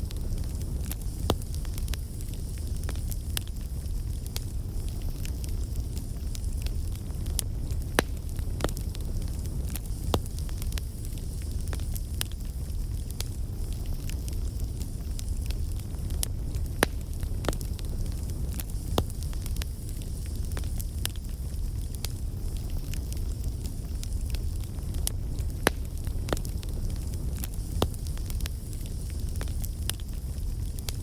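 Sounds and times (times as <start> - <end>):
low rumble of flames: 0.0 - 31.0
wood crackling and popping: 0.0 - 31.0.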